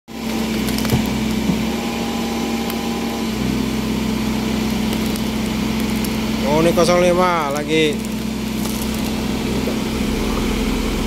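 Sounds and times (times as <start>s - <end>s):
diesel engines idling: 0.1s - 11.0s.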